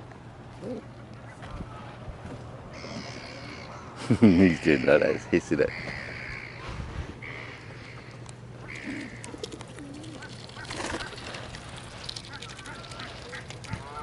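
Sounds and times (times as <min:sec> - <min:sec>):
geese calling softly: 0:02.7 - 0:14.0.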